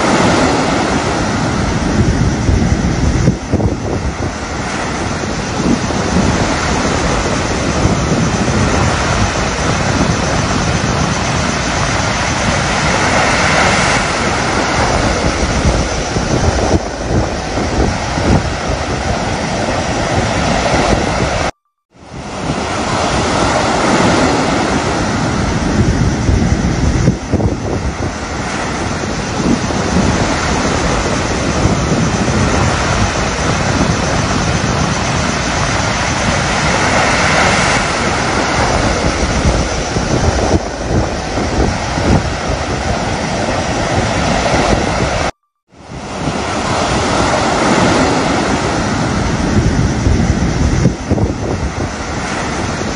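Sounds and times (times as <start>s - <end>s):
sea surf breaking on beach: 0.0s - 52.9s
wind buffeting microphone: 0.0s - 52.9s.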